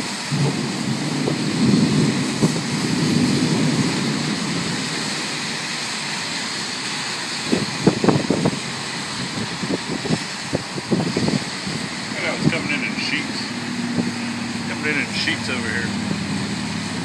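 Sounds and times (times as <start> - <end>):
rain: 0.0 - 17.0
wind: 0.0 - 17.0
low thunder rumble: 0.2 - 17.0.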